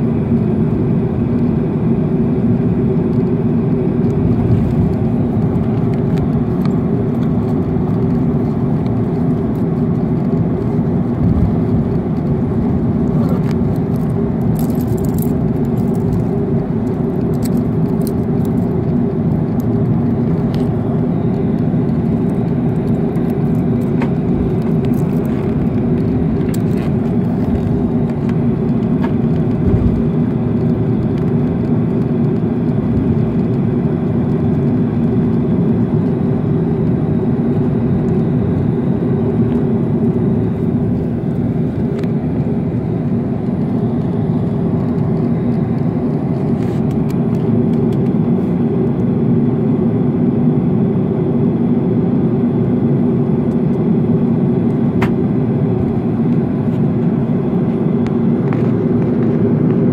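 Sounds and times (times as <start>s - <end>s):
jet engines at takeoff power: 0.0s - 59.9s.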